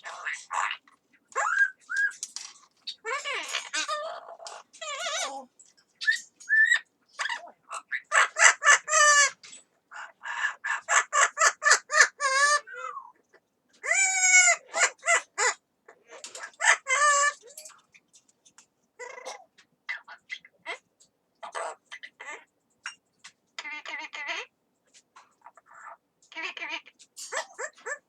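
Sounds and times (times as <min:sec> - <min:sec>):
parrot squawking and chattering: 0:00.0 - 0:18.2, 0:19.0 - 0:24.6, 0:25.2 - 0:28.0.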